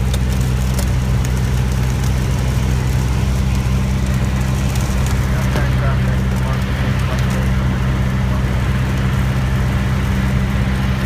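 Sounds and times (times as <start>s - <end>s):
small plane engine droning: 0.0s - 11.0s.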